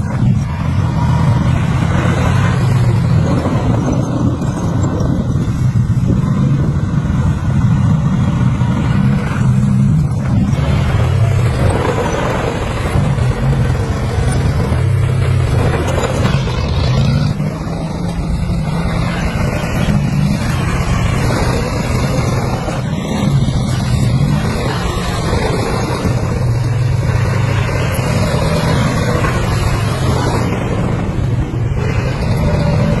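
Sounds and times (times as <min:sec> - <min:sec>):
heavy machinery engine humming: 0:00.0 - 0:33.0
noisy rumble: 0:00.0 - 0:33.0.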